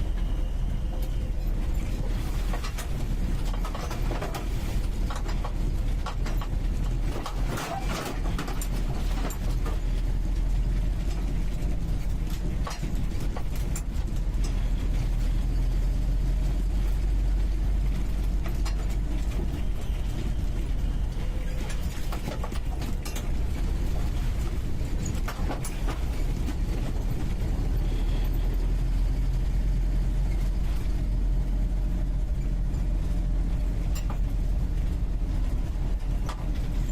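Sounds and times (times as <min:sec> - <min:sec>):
car engine rumbling from inside: 0:00.0 - 0:36.9
body knocks and rattles: 0:01.6 - 0:36.9.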